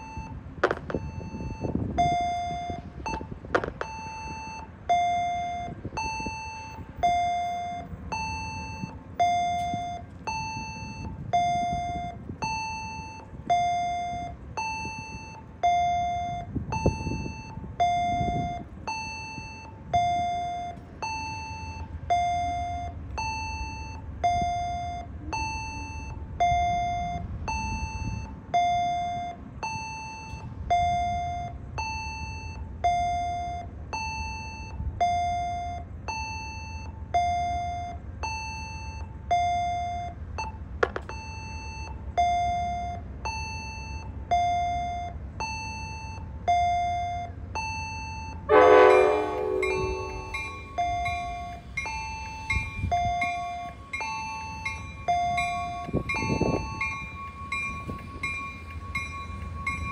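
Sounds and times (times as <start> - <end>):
low diesel rumble: 0.0 - 59.9
railway warning bell dinging: 0.0 - 59.9.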